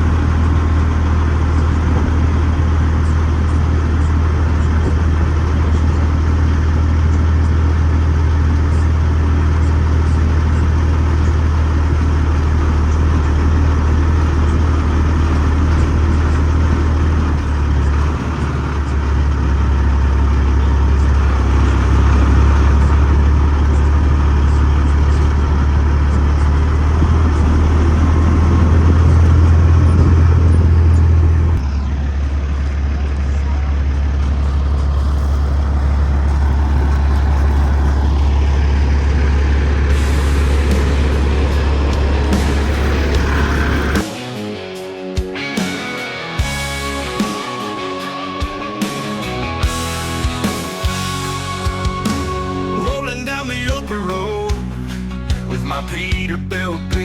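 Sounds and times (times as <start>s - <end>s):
road noise: 0.0s - 57.0s
truck diesel engine droning: 0.0s - 57.0s.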